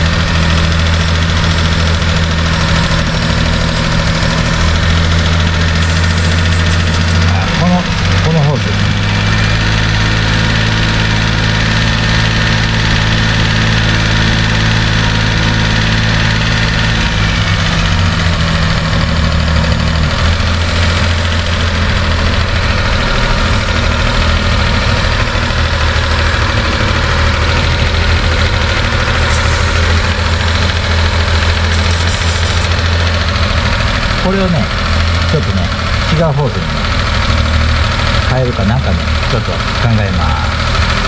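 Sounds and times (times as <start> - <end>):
truck engine idling unevenly: 0.0 - 41.0.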